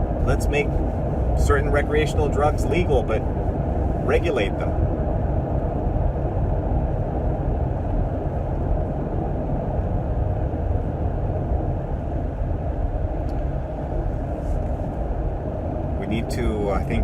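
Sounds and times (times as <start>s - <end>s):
moving vehicle rumbling: 0.0s - 17.0s.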